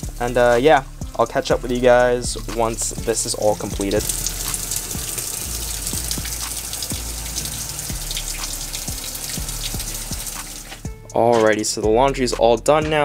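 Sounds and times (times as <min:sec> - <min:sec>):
water pouring into washing machine: 0:00.0 - 0:10.8.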